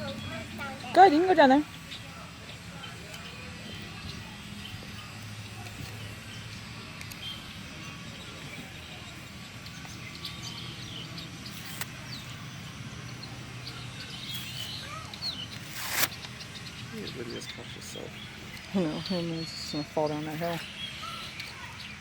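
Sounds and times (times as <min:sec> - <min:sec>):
distant traffic hum: 0:00.0 - 0:22.0
small birds chirping: 0:00.0 - 0:22.0.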